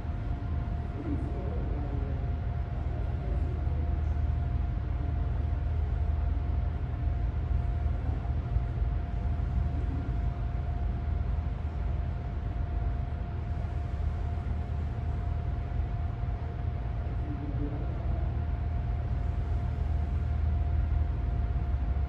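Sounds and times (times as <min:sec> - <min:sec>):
constant low rumble: 0:00.0 - 0:22.0
faint steady hum: 0:00.0 - 0:22.0.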